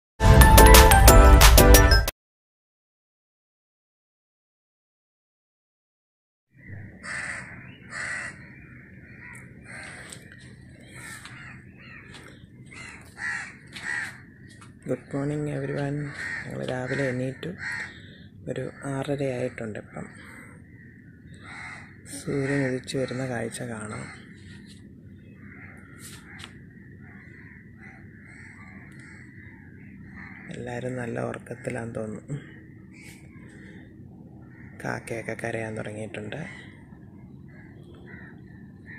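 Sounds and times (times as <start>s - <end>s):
crows cawing: 6.6s - 38.9s
low steady hum: 6.6s - 38.9s
steady low background noise: 6.7s - 38.9s.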